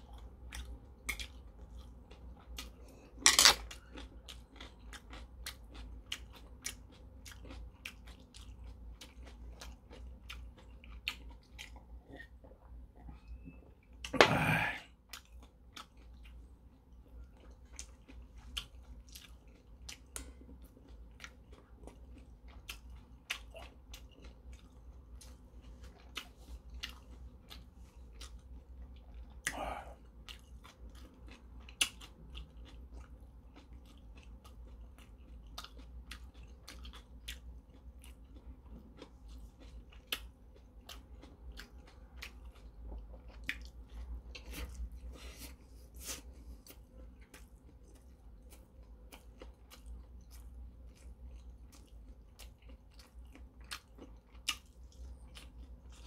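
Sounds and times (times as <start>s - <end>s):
man chewing food: 0.0s - 56.0s.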